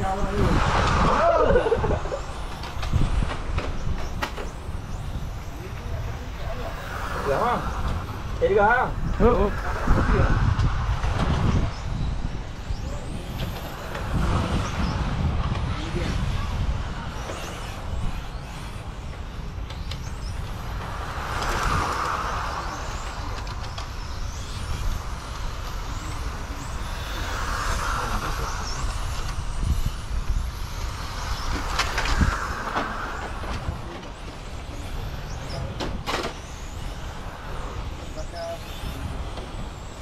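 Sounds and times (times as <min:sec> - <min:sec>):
radio-controlled cars passing: 0:00.0 - 0:40.0
wind rumble on microphone: 0:00.0 - 0:40.0.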